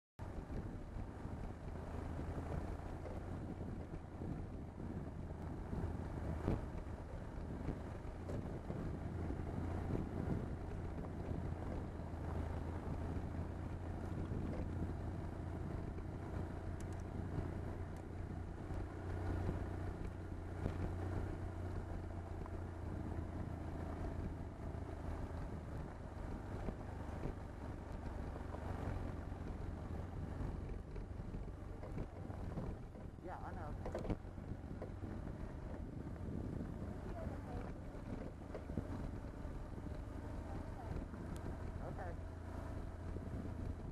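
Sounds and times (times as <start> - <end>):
motorcycle engine droning: 0.2 - 43.9
wind rushing over microphone: 0.2 - 43.9.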